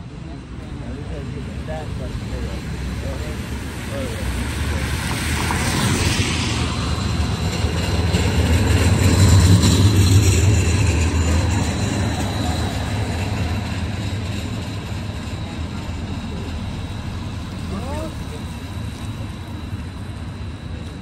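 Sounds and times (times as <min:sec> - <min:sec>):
streetcar wheels rumbling on rails: 0:00.0 - 0:21.0.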